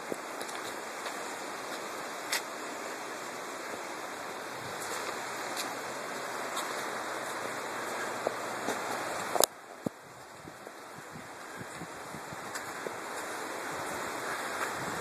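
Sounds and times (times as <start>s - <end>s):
river rushing over riffles: 0.0s - 15.0s.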